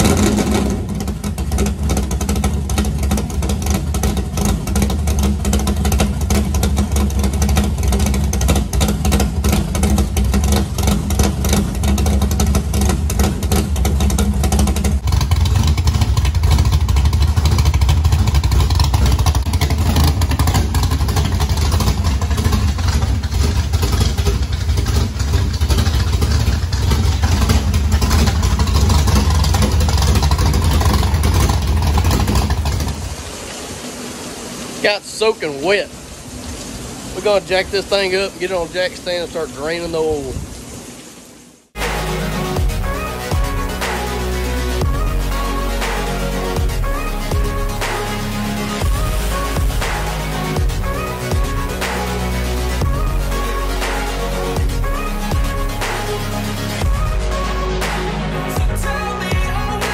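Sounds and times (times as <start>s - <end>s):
race car engine idling: 0.0s - 33.4s, 41.8s - 59.9s
heavy rain hiss: 0.0s - 59.9s.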